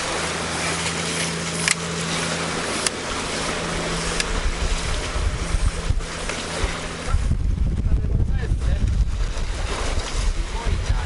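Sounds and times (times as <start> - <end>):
low steady hum: 0.0 - 11.0
waves washing: 0.0 - 11.0
wind buffeting microphone: 2.0 - 11.0.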